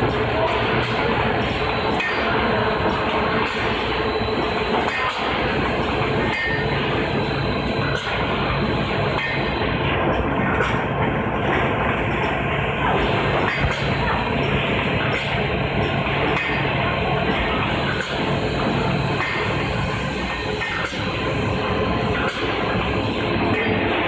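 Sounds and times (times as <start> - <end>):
factory machinery din: 0.0 - 24.0
low machine hum: 0.0 - 24.0.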